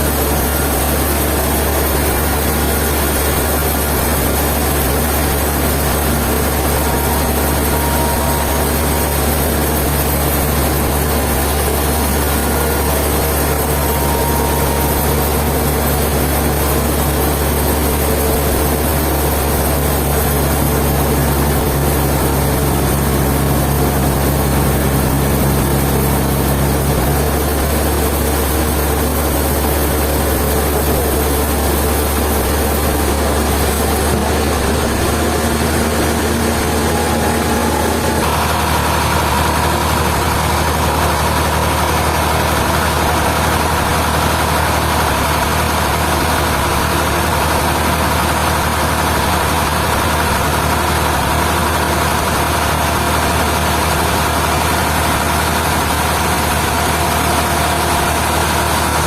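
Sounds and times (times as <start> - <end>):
engine tone: 0.0 - 59.0
sawmill machinery humming: 0.0 - 59.0.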